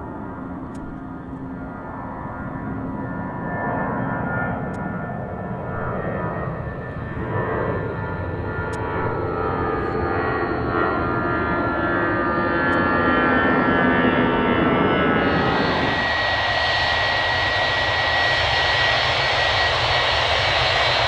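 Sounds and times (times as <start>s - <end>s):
jet engines whining: 0.1s - 21.0s.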